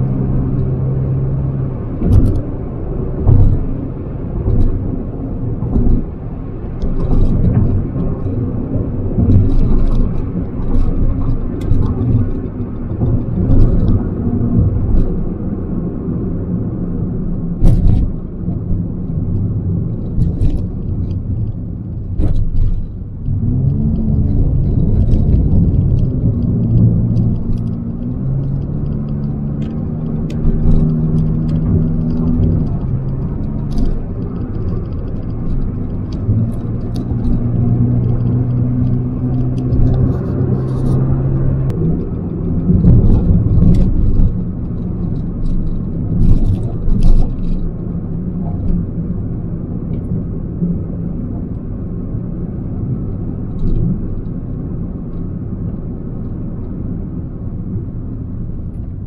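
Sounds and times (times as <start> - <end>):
car engine and road rumble: 0.0 - 59.0
engine hum: 0.0 - 59.0.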